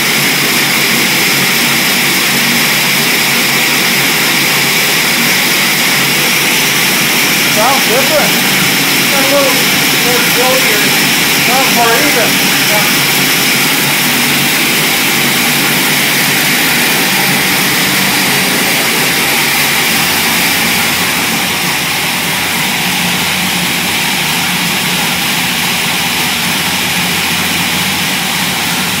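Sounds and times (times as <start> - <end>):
car engine running on dyno: 0.0 - 29.0.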